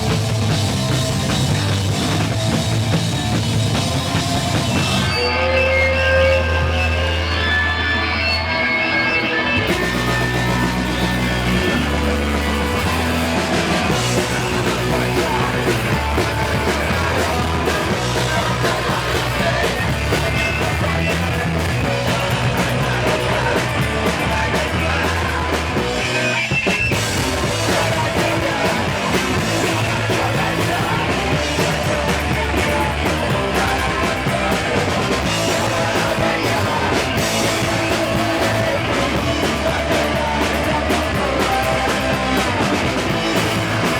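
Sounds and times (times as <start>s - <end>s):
punk band playing live: 0.0s - 43.9s
shouted vocals: 0.0s - 43.9s.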